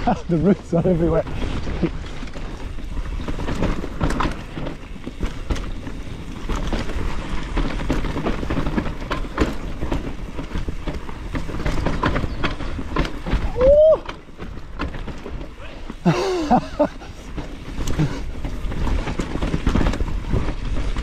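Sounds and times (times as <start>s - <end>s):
bike rattling and knocking over roots: 0.0s - 21.0s
bike tyres rumbling on dirt: 0.0s - 21.0s.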